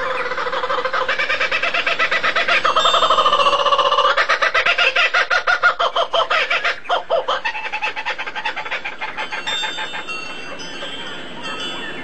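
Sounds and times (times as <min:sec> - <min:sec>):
rapid bird-like calls: 0:00.0 - 0:12.0.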